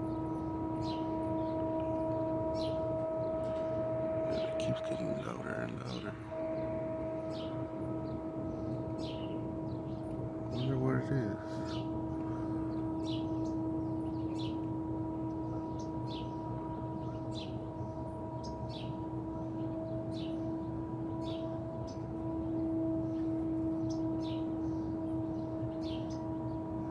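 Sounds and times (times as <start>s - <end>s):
droning tone: 0.0s - 26.9s.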